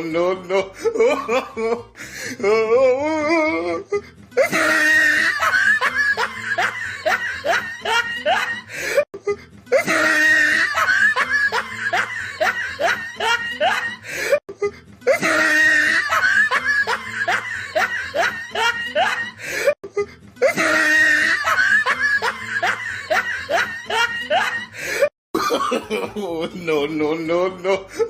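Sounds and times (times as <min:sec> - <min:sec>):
evil laugh: 0:00.6 - 0:02.0, 0:03.9 - 0:26.5.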